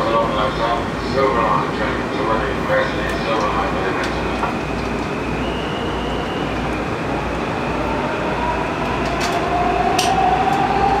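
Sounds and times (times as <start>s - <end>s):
metro train running noise: 0.0s - 11.0s.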